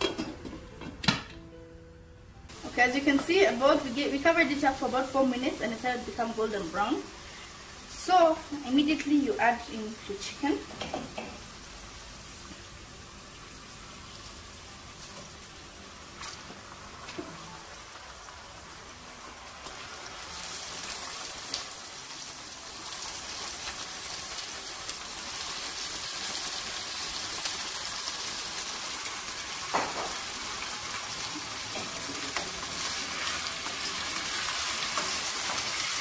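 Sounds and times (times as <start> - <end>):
chicken sizzling in a pan: 2.5 - 36.0.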